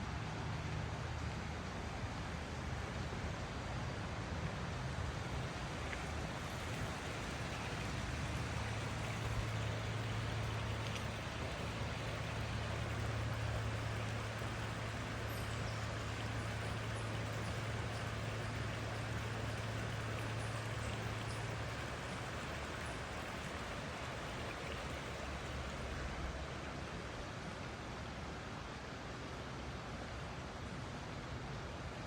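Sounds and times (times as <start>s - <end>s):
low steady hum: 0.0s - 27.4s
flowing water rushing: 0.1s - 32.0s.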